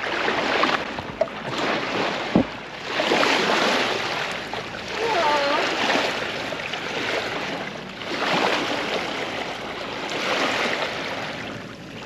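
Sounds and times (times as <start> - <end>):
water rushing along boat hull: 0.0 - 12.0.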